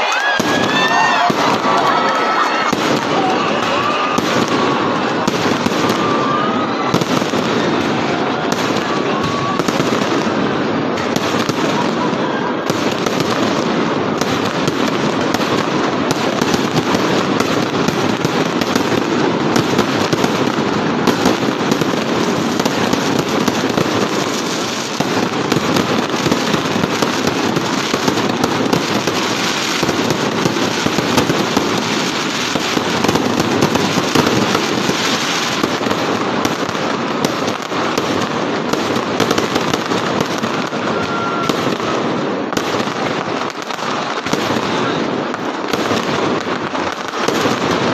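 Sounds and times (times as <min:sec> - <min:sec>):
fireworks crackling and popping: 0:00.0 - 0:47.9.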